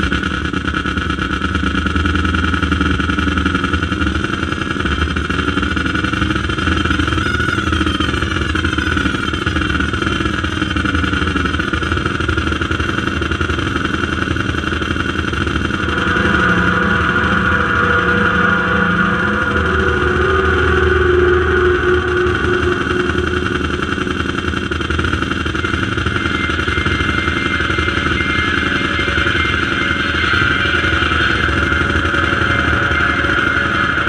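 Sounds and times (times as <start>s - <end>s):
droning electronic noise music: 0.0s - 34.0s.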